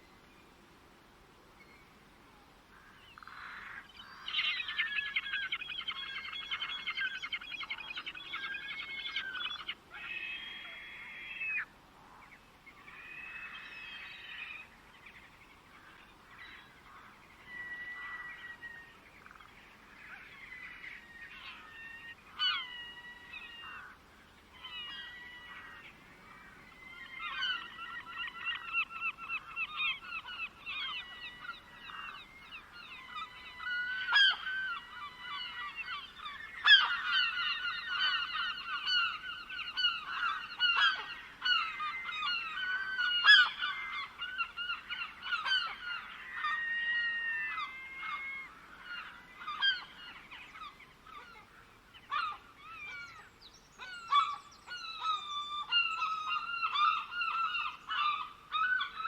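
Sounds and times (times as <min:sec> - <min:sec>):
birds calling: 0:02.7 - 0:59.0.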